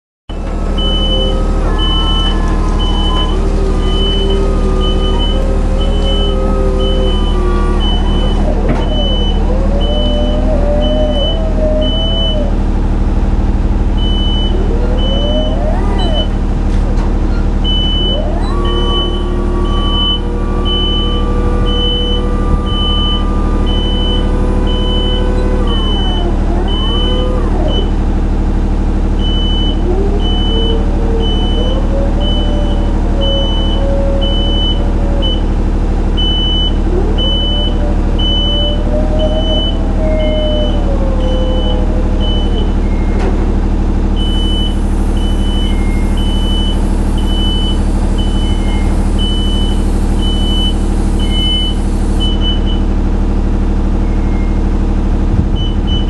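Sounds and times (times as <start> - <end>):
hydraulic pump motor humming: 0.3 - 56.0
whining tone: 0.3 - 56.0
motion alarm beeping: 0.4 - 12.5, 14.0 - 16.4, 17.6 - 28.0, 29.2 - 35.6, 36.2 - 43.4, 44.2 - 52.9, 54.0 - 54.8, 55.6 - 56.0.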